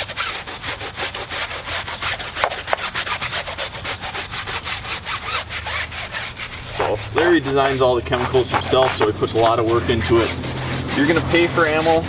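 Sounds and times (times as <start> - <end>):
brush scrubbing wet tire: 0.0 - 12.0.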